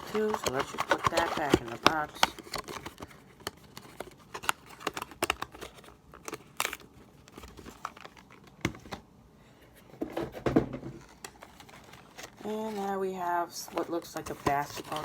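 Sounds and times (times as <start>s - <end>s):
packaging crinkling and scraping: 0.0s - 9.0s, 9.8s - 15.0s.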